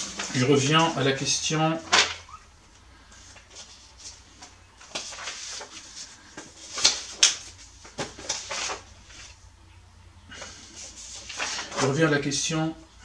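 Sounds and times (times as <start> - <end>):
paper shuffling and rustling: 0.0 - 2.4, 3.0 - 9.4, 10.3 - 12.3.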